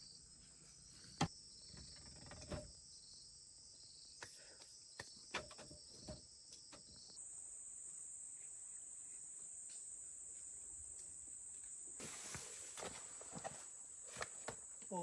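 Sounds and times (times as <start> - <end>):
insects chirring: 0.9 - 15.0.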